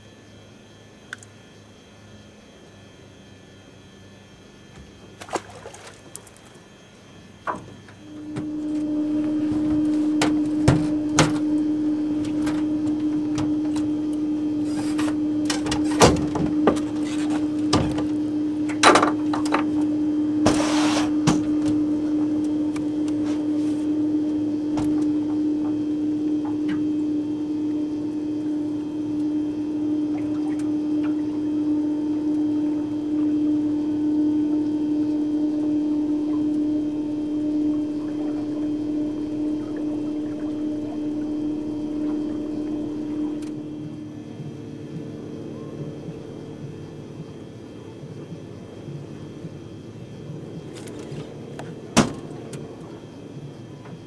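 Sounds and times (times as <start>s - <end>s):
electric trolling motor whine: 0.0s - 54.0s.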